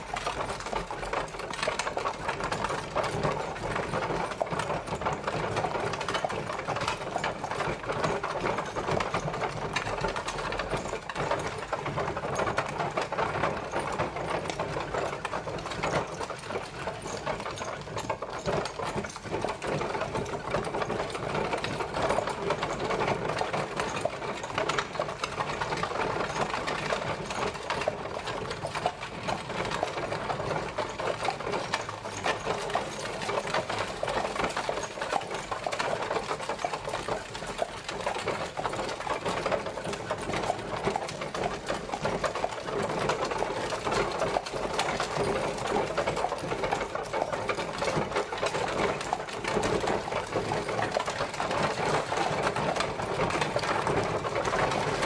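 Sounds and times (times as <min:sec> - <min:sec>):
carriage wheels rattling: 0:00.0 - 0:55.0.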